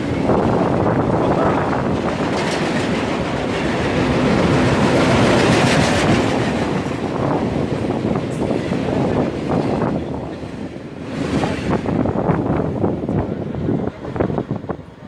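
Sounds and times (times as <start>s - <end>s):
train wheels clicking over rail joints: 0.0s - 13.3s
train rumble: 0.0s - 15.0s.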